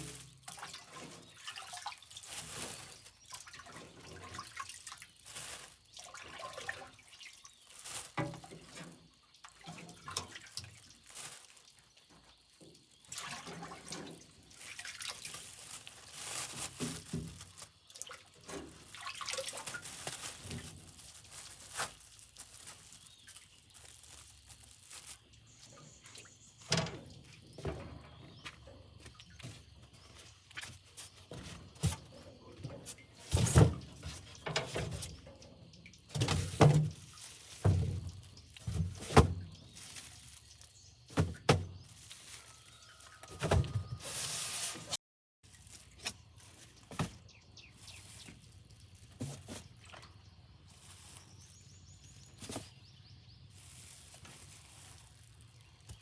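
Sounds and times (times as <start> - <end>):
water splashing and trickling: 0.0 - 28.3, 29.0 - 44.8, 45.4 - 56.0.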